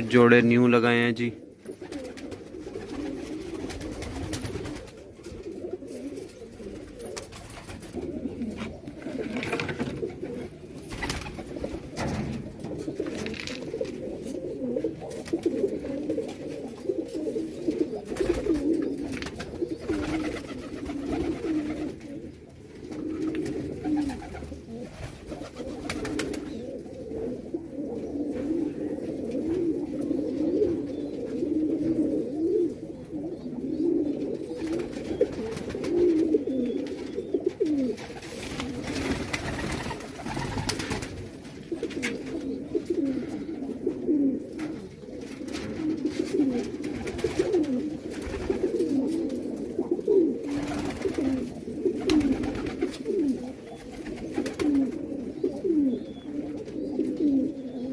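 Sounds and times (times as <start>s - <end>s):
pigeons cooing: 0.0s - 57.9s.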